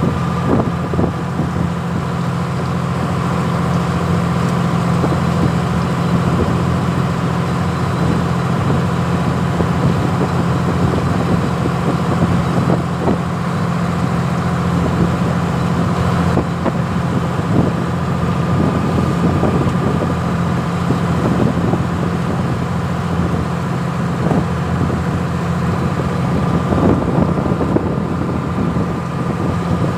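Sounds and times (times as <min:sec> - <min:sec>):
ship engine humming: 0:00.0 - 0:29.9.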